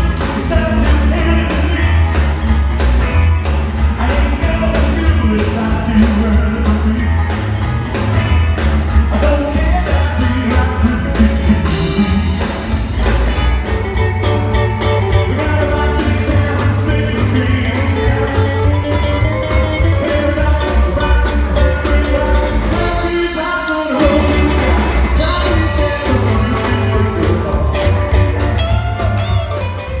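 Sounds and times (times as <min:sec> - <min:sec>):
rockabilly band playing: 0:00.0 - 0:30.0.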